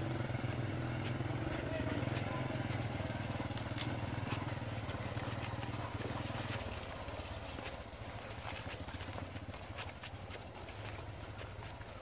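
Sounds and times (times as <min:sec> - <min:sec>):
footsteps on dirt path: 0:00.0 - 0:12.0
motorbike engine at low revs: 0:00.0 - 0:12.0.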